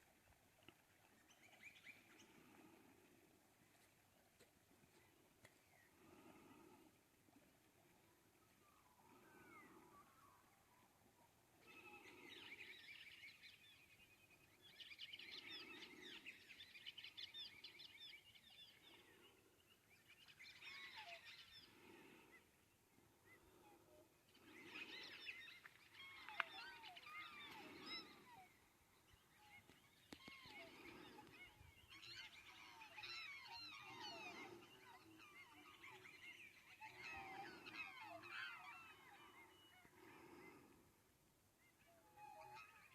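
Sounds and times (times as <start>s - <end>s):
faint birds chirping: 0.0s - 42.9s.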